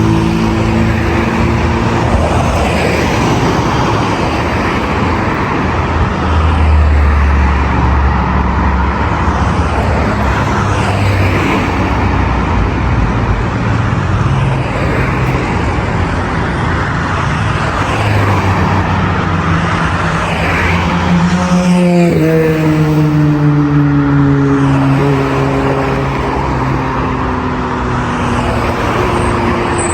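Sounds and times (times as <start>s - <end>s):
road traffic: 0.0s - 29.9s.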